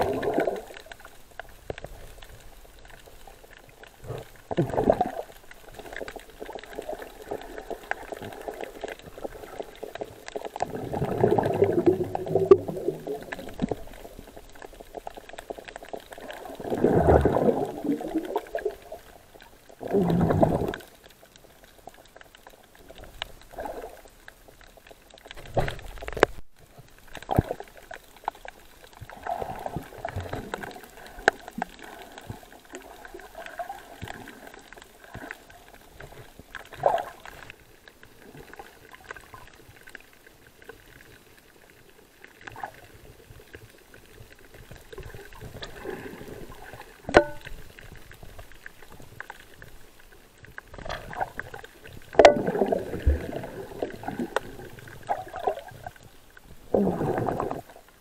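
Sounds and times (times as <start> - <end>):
sea water sloshing and splashing: 0.0 - 58.0.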